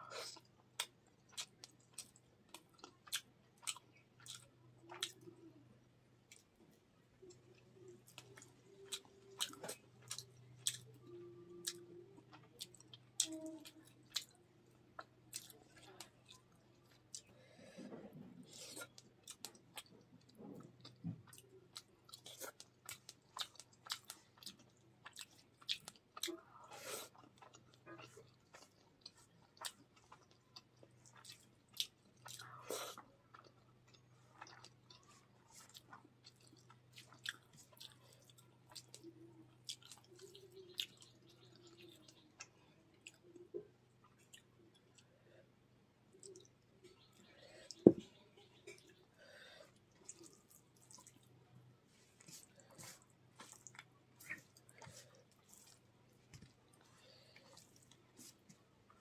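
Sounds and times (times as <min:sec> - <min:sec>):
person chewing wetly: 0:00.2 - 0:05.5, 0:07.3 - 0:14.4, 0:15.0 - 0:17.3, 0:18.5 - 0:45.2, 0:46.1 - 0:51.4, 0:52.2 - 0:59.0.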